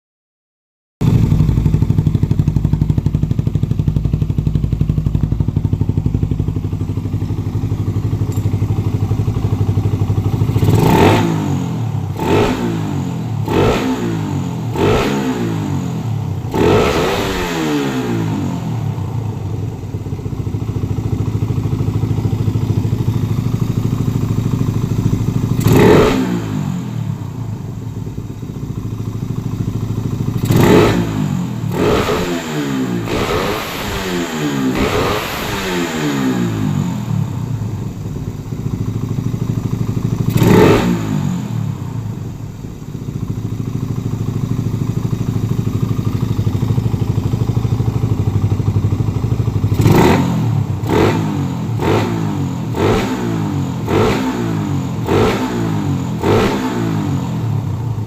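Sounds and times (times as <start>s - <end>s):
motorcycle engine idling and revving: 1.0s - 58.0s.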